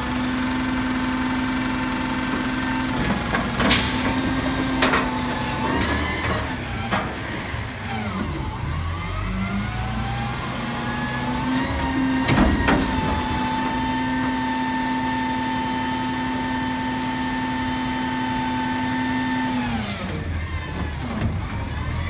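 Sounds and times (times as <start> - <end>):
garbage truck hydraulic whine: 2.2 - 22.0.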